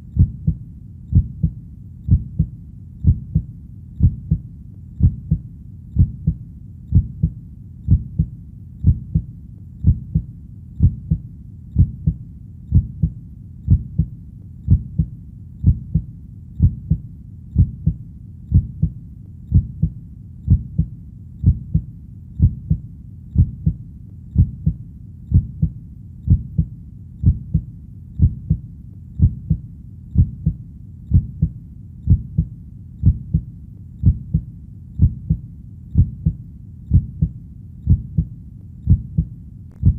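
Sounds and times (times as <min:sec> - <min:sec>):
heartbeat double thump: 0:00.2 - 0:04.4, 0:05.0 - 0:05.4, 0:06.0 - 0:11.2, 0:11.8 - 0:14.1, 0:14.7 - 0:17.0, 0:17.6 - 0:22.8, 0:24.4 - 0:28.6, 0:29.2 - 0:29.6, 0:30.2 - 0:35.4, 0:36.0 - 0:38.3, 0:38.9 - 0:39.9.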